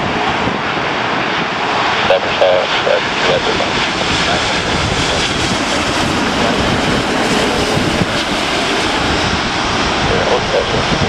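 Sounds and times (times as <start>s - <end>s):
jet engines of passing airliner: 0.0s - 11.0s.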